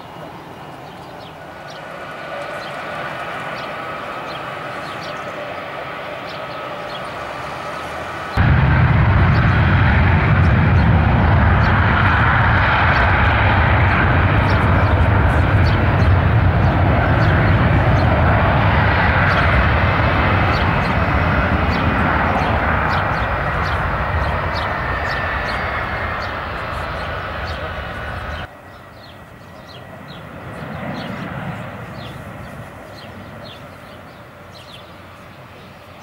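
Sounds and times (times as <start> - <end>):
jet engines taxiing: 0.0 - 36.0.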